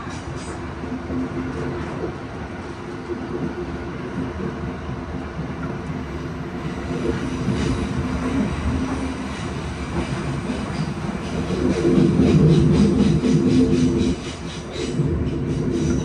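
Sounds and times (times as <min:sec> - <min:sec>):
subway train rumbling in tunnel: 0:00.0 - 0:16.0.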